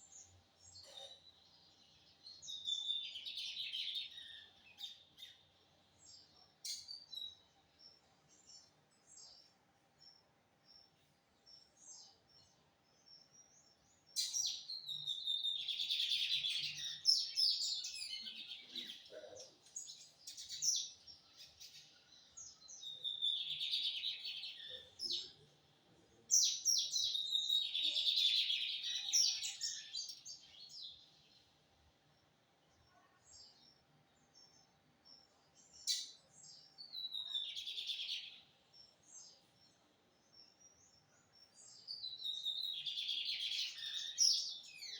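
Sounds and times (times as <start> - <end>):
soft bird chirps: 0.0 - 44.9.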